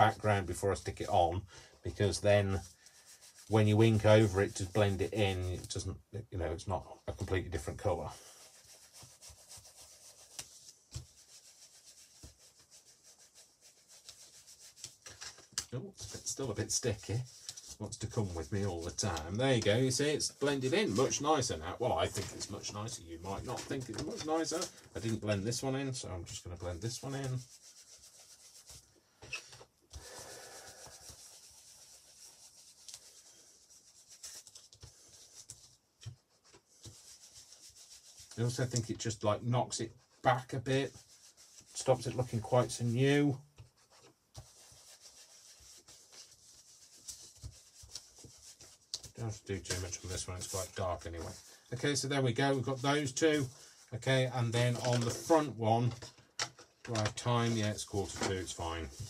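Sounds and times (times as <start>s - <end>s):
foam tool rubbing paper: 1.9s - 5.8s, 7.9s - 28.9s, 29.9s - 56.1s.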